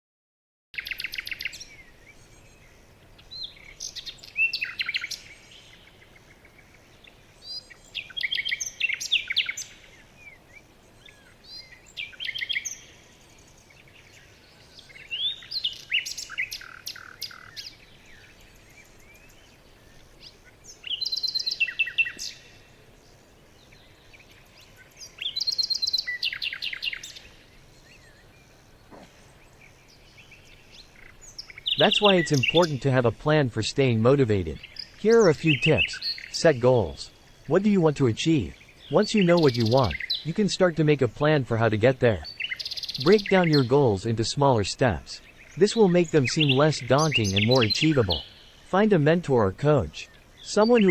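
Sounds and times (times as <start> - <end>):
songbird chirping and trilling: 0.8 - 50.9.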